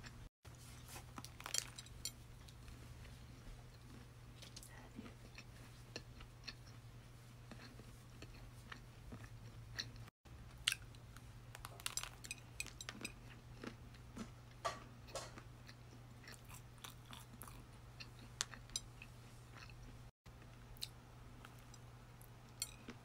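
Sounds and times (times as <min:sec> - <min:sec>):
chewing doughnut: 0:01.0 - 0:23.0.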